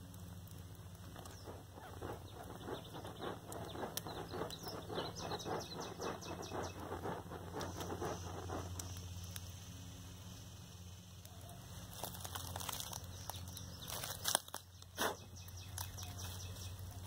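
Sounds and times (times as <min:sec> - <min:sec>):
dry twigs rustling and crackling: 0:00.0 - 0:09.8, 0:11.2 - 0:17.0.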